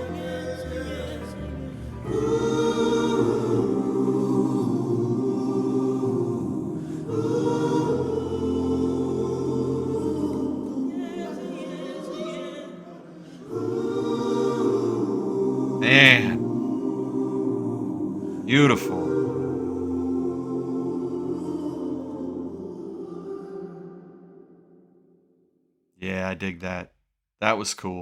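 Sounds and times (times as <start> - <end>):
choir singing held chords: 0.0 - 25.1.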